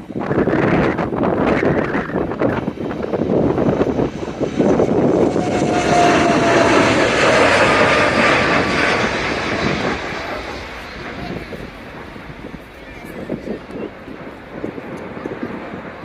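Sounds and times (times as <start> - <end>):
jet airliner taking off: 0.0 - 16.0
wind buffeting microphone: 0.0 - 16.0.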